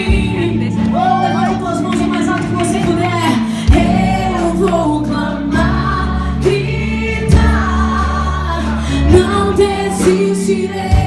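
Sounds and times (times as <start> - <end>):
band with sustained bass: 0.0 - 11.0
voices singing gospel song: 0.0 - 11.0.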